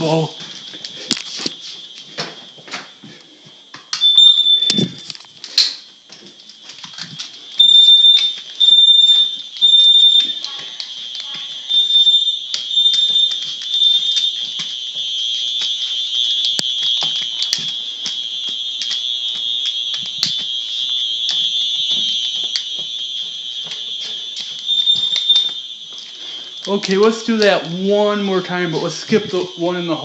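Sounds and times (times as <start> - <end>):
smoke alarm beeps: 0.0 - 30.0
smoke alarm tone: 0.0 - 30.0.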